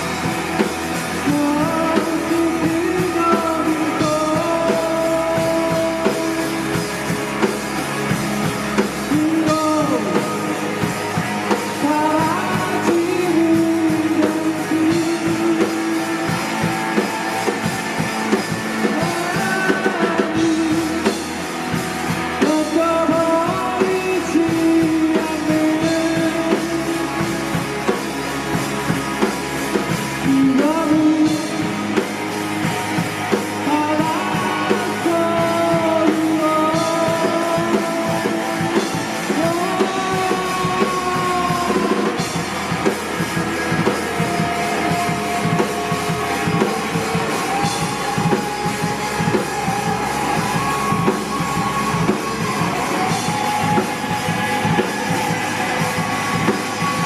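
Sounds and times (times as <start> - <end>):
drum kit: 0.0 - 57.0
electric guitars: 0.0 - 57.0
person singing: 0.0 - 57.0.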